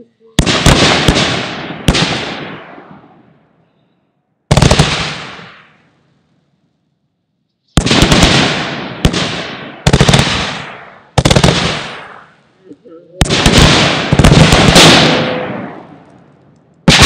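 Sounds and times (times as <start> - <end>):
fireworks cracking bursts: 0.0 - 3.6, 4.5 - 6.2, 7.6 - 17.0.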